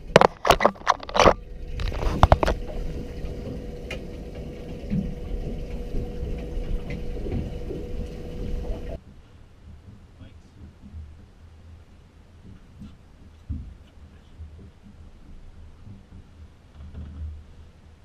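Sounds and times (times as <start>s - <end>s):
faint steady hum: 0.0s - 18.0s
knocks and clatter on boat: 0.0s - 18.0s
wind and water rumble: 0.0s - 18.0s.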